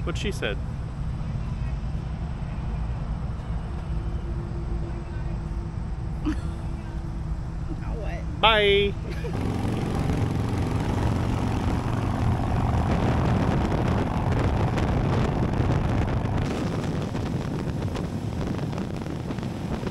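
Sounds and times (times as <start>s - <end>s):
motorcycle engines running: 0.0s - 19.9s
wind buffeting microphone: 0.0s - 19.9s.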